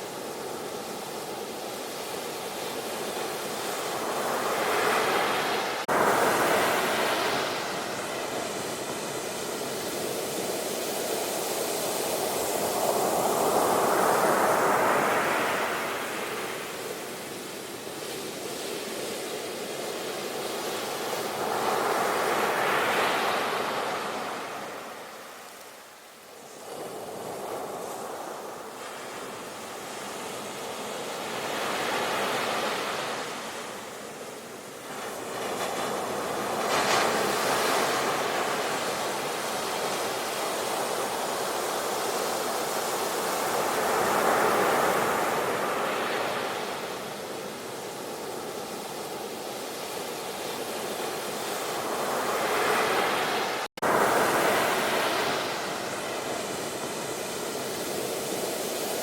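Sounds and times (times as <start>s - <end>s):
ocean waves rushing: 0.0s - 59.0s.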